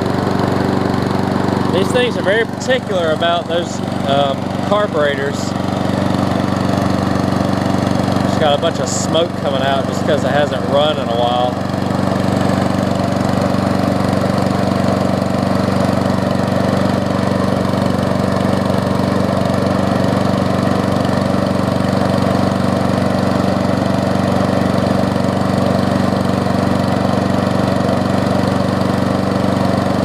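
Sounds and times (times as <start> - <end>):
lawn mower engine running: 0.0 - 30.0.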